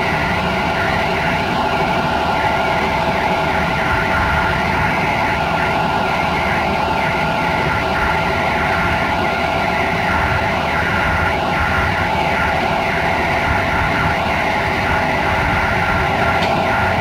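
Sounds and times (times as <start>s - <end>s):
constant whine: 0.0s - 17.0s
train wheels rumbling on rails: 0.0s - 17.0s.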